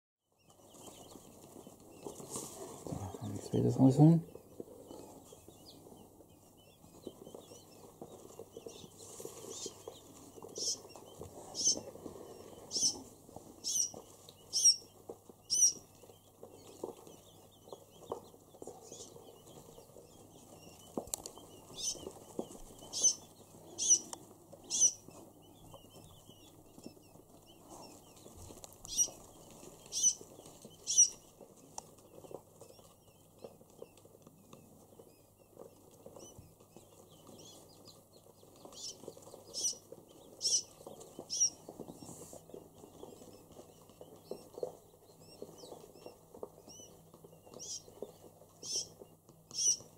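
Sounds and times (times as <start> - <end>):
quail chicks peeping: 0.3 - 49.9.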